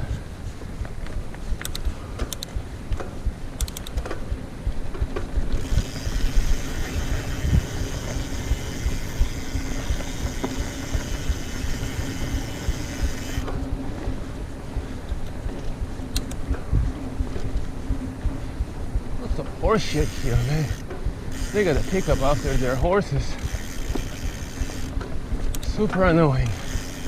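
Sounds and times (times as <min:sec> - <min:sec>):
tyre and wind rumble: 0:00.0 - 0:27.0
bike rattling clicks: 0:00.8 - 0:14.1, 0:15.0 - 0:17.7, 0:19.6 - 0:27.0.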